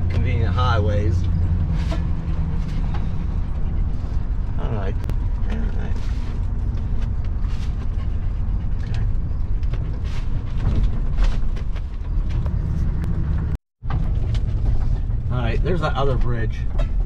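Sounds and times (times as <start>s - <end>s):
engine and road rumble: 0.0s - 17.0s
light rattles and clicks: 0.0s - 17.0s.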